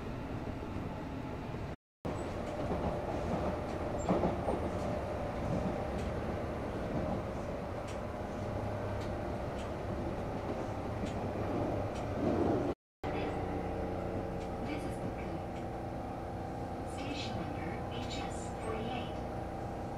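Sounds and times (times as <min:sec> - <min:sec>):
electric train rumbling on track: 0:00.0 - 0:19.9.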